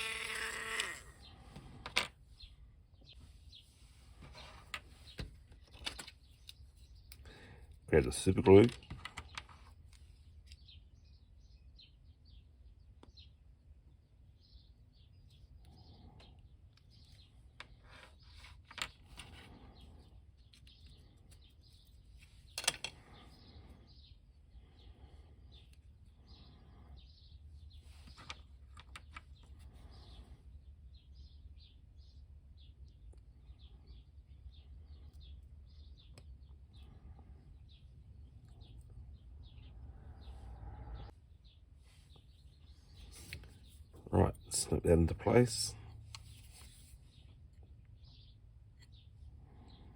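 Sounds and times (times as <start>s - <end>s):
birds chirping: 1.1s - 49.9s.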